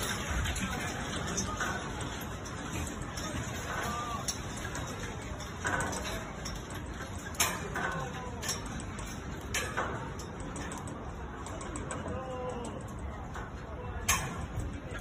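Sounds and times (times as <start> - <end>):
sharp clicks and knocks: 0.0 - 15.0.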